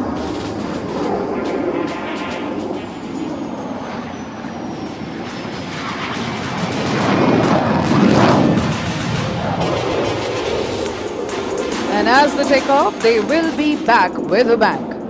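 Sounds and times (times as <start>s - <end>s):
jet engines taking off: 0.0s - 15.0s.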